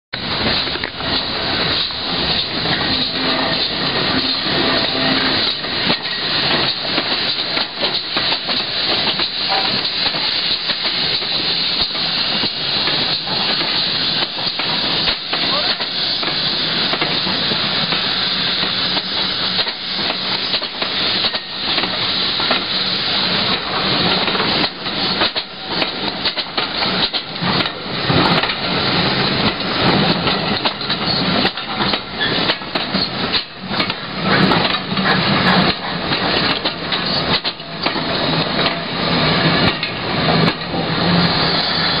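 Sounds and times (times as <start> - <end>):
steam train hissing rush: 0.2 - 42.0
train wheels clanking: 0.2 - 42.0.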